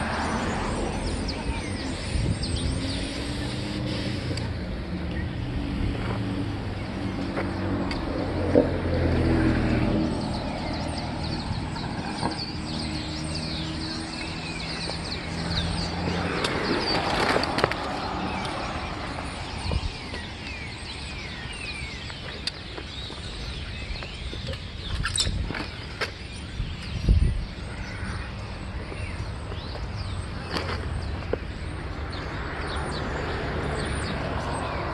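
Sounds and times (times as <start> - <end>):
flock of birds chirping: 0.0 - 34.9
vehicle engine hum: 0.0 - 34.9.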